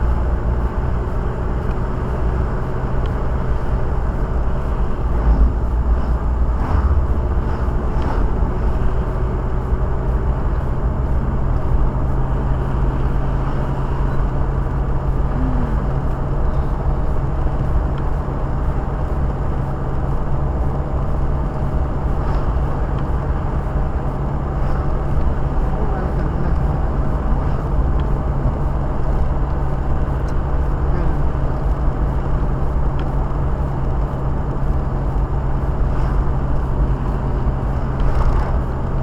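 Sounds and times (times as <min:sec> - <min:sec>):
car engine hum inside cabin: 0:00.0 - 0:39.0
road noise: 0:00.0 - 0:39.0.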